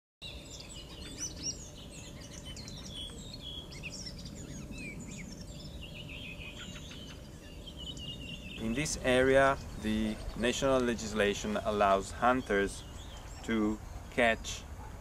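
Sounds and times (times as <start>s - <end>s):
small birds chirping and singing: 0.2s - 15.0s
steady low background noise: 0.2s - 15.0s.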